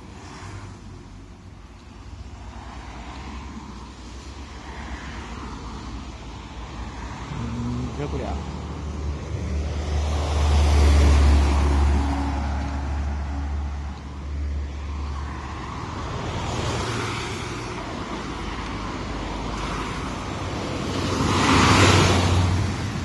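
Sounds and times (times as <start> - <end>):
vehicles passing on road: 0.0 - 23.0.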